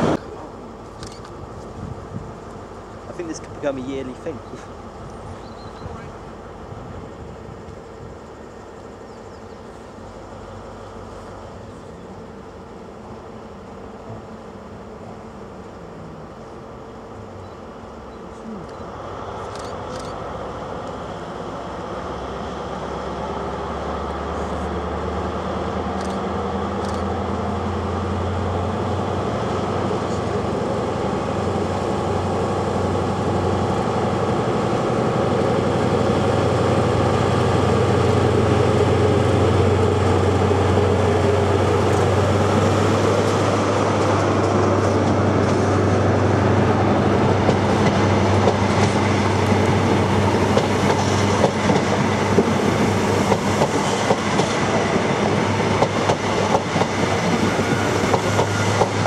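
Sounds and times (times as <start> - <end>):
diesel train engine passing: 0.0 - 59.0.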